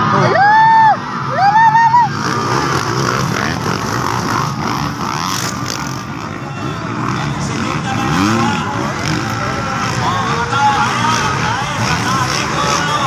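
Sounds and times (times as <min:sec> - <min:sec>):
spectators yelling: 0:00.0 - 0:13.0
dirt bikes revving past: 0:01.1 - 0:13.0.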